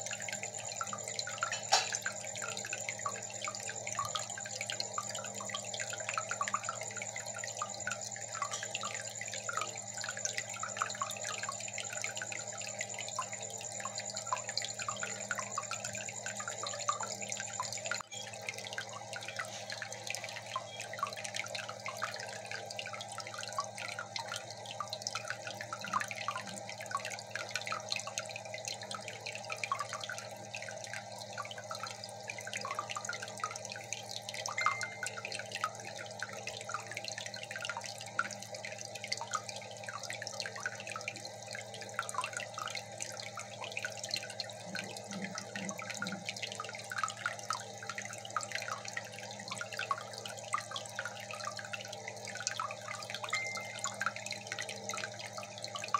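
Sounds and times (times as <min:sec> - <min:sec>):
aquarium water trickling: 0:00.0 - 0:55.9
low steady hum: 0:00.0 - 0:55.9.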